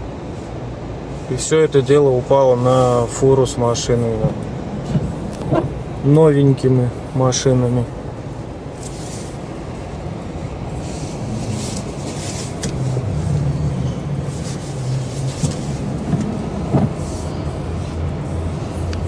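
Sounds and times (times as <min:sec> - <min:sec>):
passing vehicles hissing: 0:00.0 - 0:19.0
vehicle engines humming: 0:00.0 - 0:19.0.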